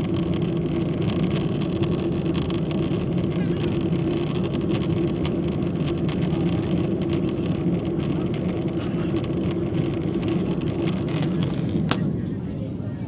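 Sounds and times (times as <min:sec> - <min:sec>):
rapid irregular crackle: 0:00.0 - 0:12.1
jet engines droning: 0:00.0 - 0:13.0.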